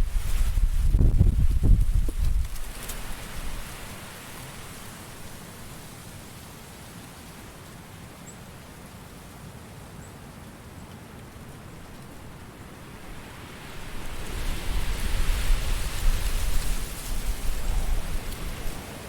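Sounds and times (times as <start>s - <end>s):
steady hiss of wind: 0.0s - 19.0s.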